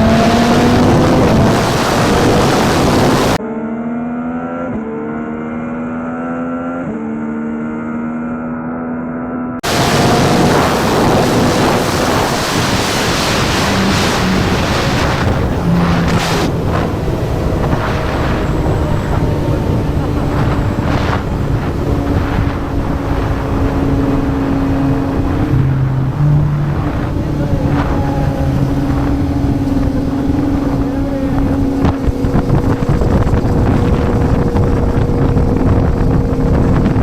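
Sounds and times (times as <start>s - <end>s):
wind rushing on microphone: 0.0s - 3.4s, 9.6s - 37.0s
motorcycle engine revving: 0.0s - 37.0s.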